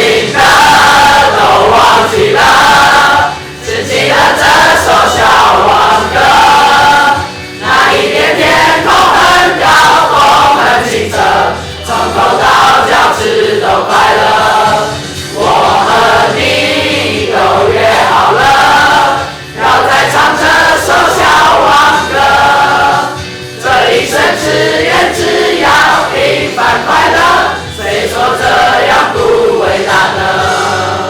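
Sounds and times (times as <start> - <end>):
backing music: 0.0 - 31.0
group of voices singing: 0.0 - 31.0.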